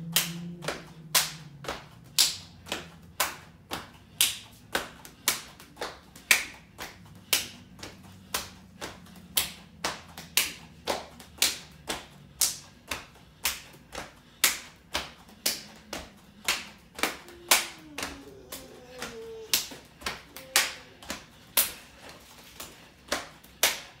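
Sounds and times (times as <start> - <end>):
hand claps: 0.0 - 24.0.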